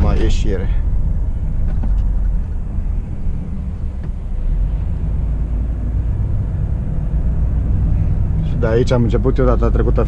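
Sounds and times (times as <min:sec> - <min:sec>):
truck diesel engine rumble: 0:00.0 - 0:10.0.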